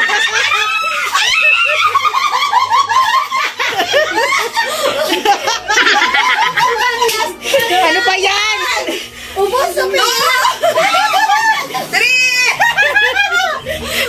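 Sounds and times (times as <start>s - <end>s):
group of people laughing: 0.0s - 14.0s.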